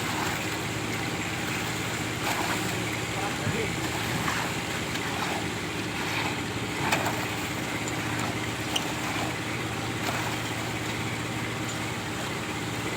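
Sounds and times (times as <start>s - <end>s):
machine engine running: 0.0s - 12.9s.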